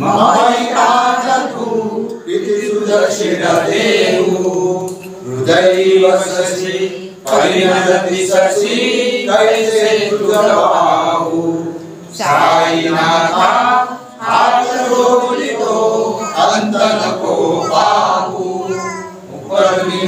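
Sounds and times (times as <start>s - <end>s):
group chanting in unison: 0.0s - 20.0s.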